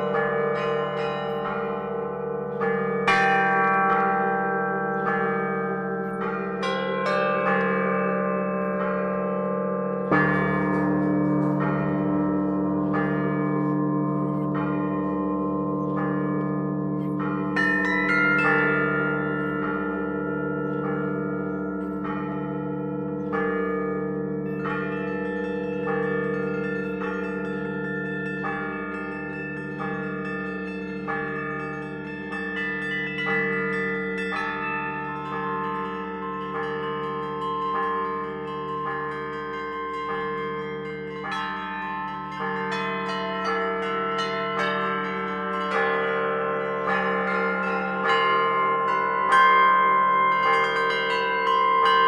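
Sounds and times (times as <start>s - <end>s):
large bells ringing: 0.0s - 52.0s.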